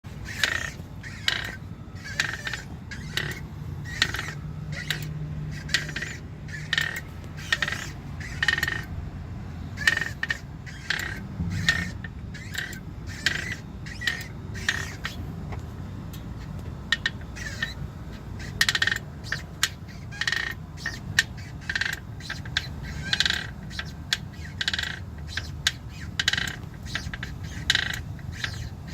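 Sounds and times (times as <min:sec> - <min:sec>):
clutch squeaks: 0:00.0 - 0:09.0, 0:09.6 - 0:28.9.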